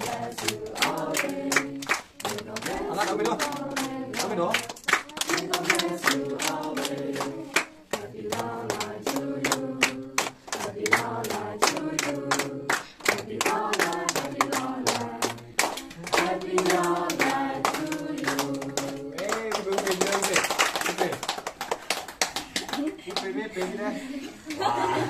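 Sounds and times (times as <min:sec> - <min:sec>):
group singing: 0:00.0 - 0:20.3
people clapping along: 0:00.0 - 0:25.0.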